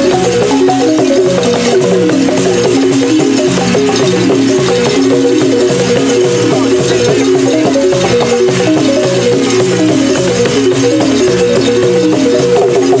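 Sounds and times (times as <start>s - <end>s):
low pitched drum pattern: 0.0s - 13.0s.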